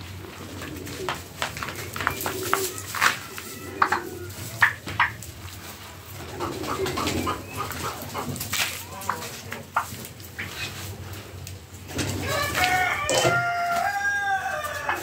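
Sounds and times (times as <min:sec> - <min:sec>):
turkey poults peeping: 0:00.0 - 0:15.0.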